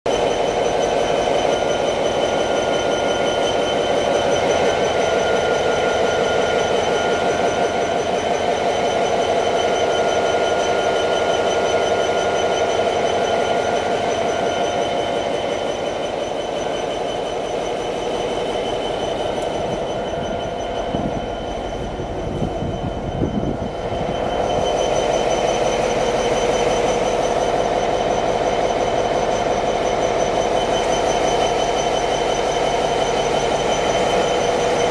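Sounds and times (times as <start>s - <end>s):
diesel locomotive engine running: 0.0s - 34.9s.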